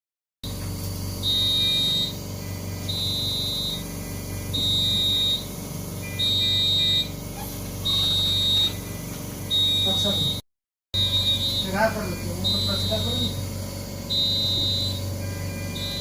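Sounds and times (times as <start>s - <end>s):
electronic alarm beeping: 1.2s - 7.2s, 7.8s - 10.4s, 11.0s - 16.0s.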